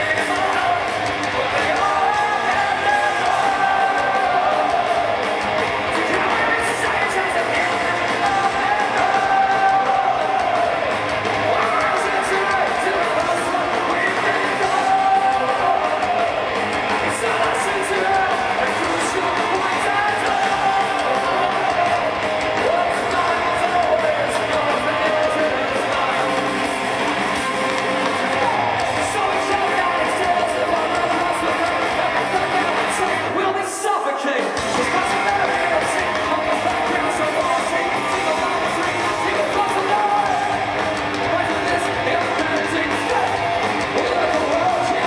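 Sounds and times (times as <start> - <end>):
live band playing amplified music: 0.0 - 45.0
vocalist singing: 0.0 - 45.0.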